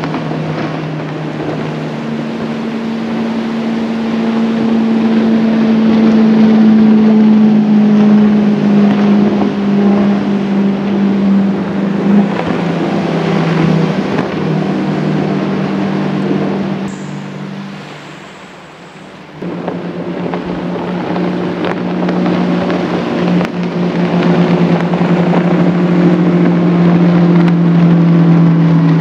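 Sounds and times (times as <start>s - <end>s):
outboard motor passing by: 0.0s - 29.0s.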